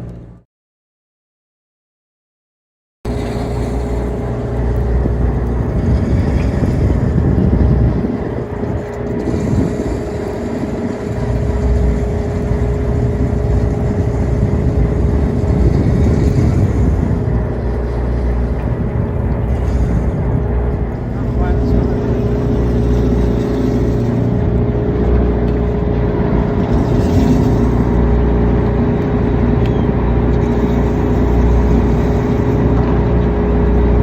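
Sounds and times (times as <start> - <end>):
boat engine running: 0.0 - 0.4, 3.1 - 34.0.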